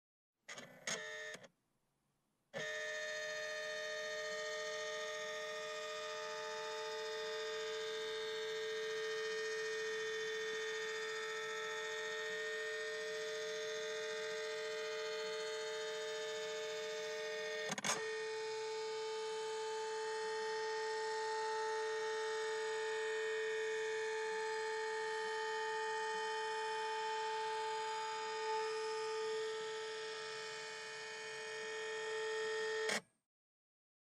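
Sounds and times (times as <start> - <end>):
scanner motor whining: 2.6 - 33.0.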